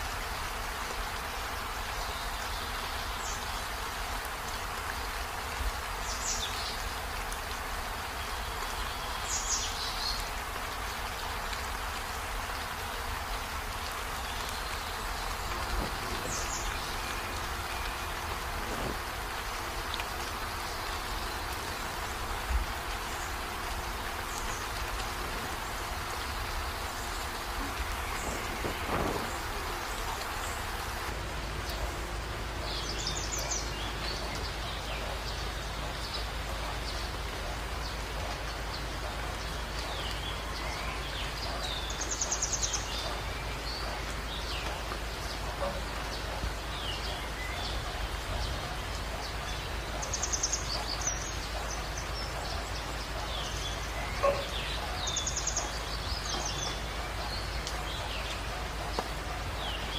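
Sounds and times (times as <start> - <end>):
steady rain-like hiss: 0.0 - 59.9.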